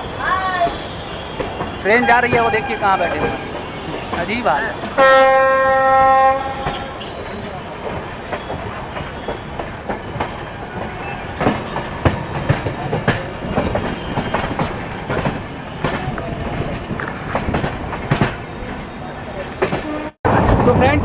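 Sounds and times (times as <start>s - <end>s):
train wheels rumbling on track: 0.0s - 21.0s
wheels clacking over rail joints: 1.3s - 21.0s.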